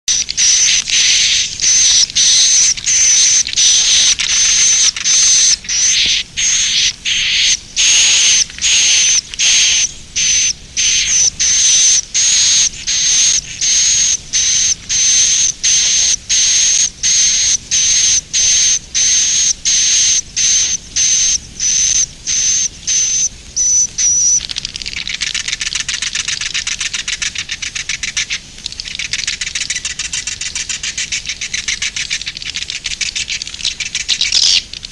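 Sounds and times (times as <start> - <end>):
swiftlet chirping and twittering: 0.1 - 34.8.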